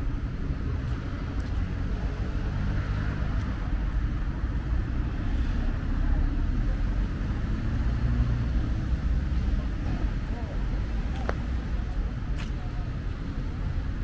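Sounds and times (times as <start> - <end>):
distant road traffic rumble: 0.0 - 14.0.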